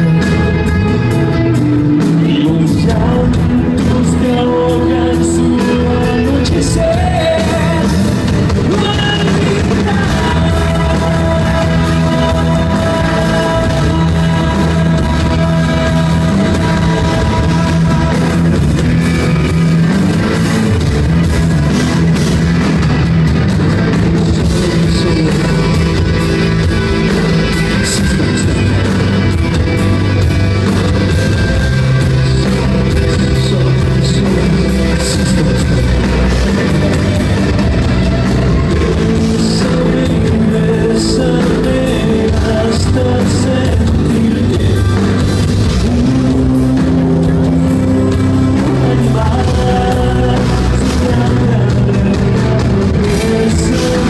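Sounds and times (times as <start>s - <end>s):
person singing: 0.0s - 20.9s, 24.1s - 54.0s
bass: 0.0s - 54.0s
drums: 0.0s - 54.0s
electric and acoustic guitars: 0.0s - 54.0s.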